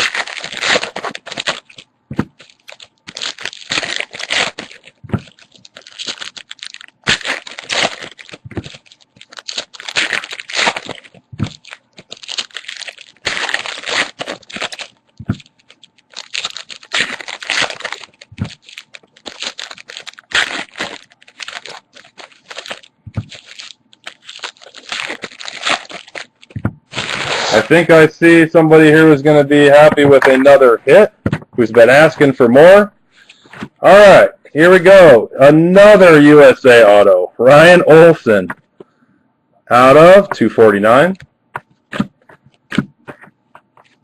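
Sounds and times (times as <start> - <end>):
trading cards rustling: 0.0 - 32.3, 39.8 - 44.0.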